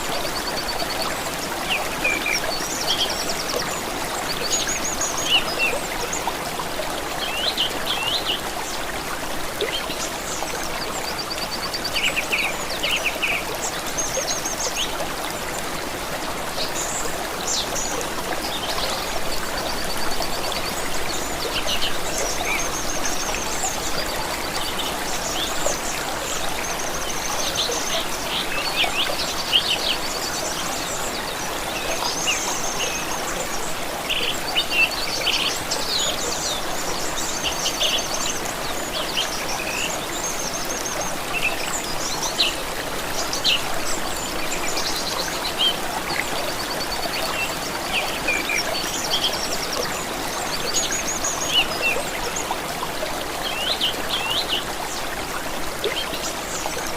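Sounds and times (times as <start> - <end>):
stream running: 0.0 - 56.9.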